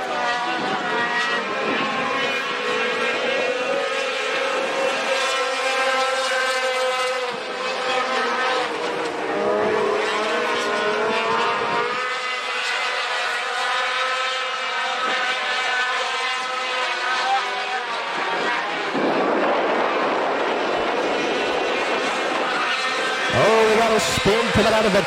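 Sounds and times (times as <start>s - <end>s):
racing truck engines revving: 0.0s - 19.2s, 19.8s - 25.0s.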